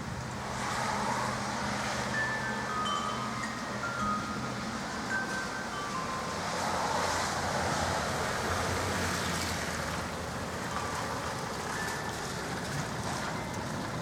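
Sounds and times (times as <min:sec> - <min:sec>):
wind: 0:00.0 - 0:14.0
rain: 0:00.2 - 0:03.9, 0:04.5 - 0:14.0.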